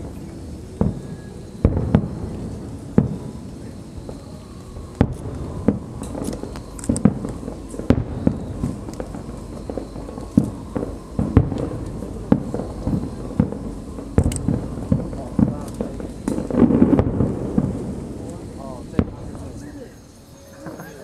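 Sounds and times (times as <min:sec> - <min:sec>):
faint high crackling: 0:00.0 - 0:21.0
fireworks bangs: 0:00.0 - 0:21.0.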